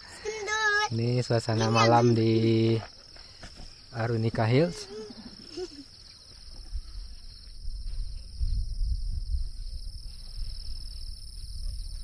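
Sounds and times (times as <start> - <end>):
high-pitched insect hiss: 0.0 - 12.0
insects chirping: 0.0 - 12.0.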